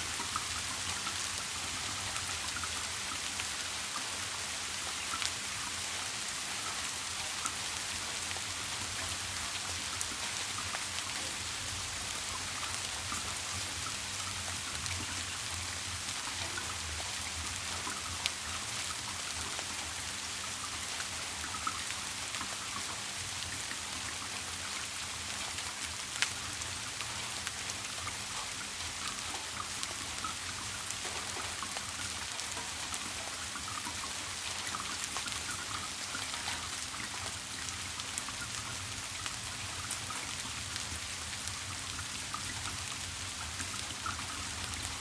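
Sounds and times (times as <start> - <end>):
drip ticks: 0.0 - 45.0
steady rain falling: 0.0 - 45.0.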